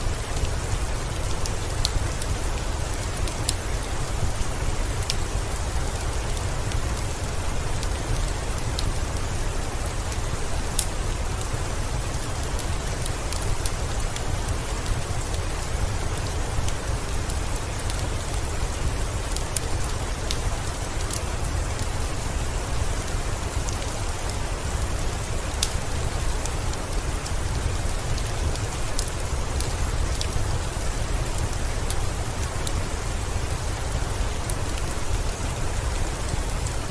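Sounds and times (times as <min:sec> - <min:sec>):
heavy rain: 0:00.0 - 0:36.9
wood fire crackling: 0:00.0 - 0:36.9.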